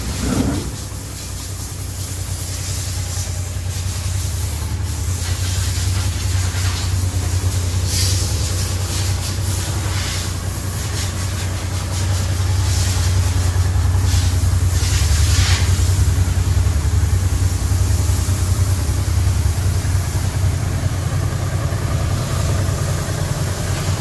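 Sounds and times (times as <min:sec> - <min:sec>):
hiss: 0:00.0 - 0:24.0
motorcycle engine idling: 0:00.0 - 0:24.0.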